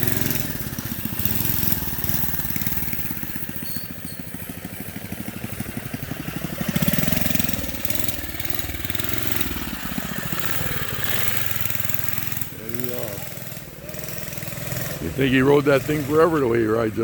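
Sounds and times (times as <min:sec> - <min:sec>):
small gasoline engine revving: 0:00.0 - 0:17.0.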